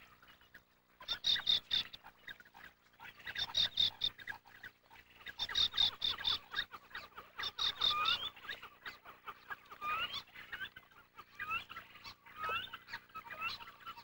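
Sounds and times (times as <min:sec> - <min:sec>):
terns calling: 0:00.0 - 0:14.0.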